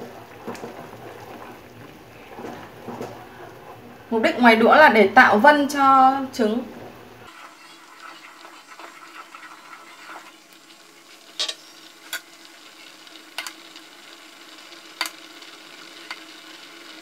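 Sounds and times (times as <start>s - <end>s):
soup simmering in a pot: 0.0s - 17.0s.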